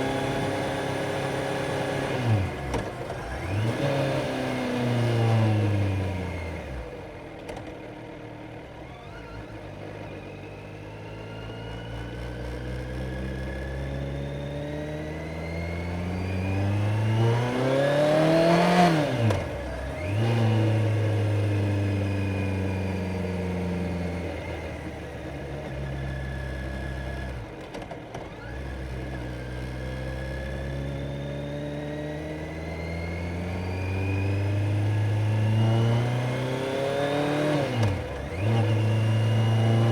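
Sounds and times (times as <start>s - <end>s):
motorcycle engine revving: 0.0s - 7.1s, 12.4s - 39.9s.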